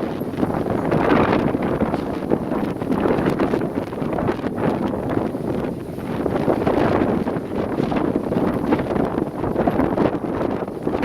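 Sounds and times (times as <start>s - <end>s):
gusty wind on microphone: 0.0s - 11.0s.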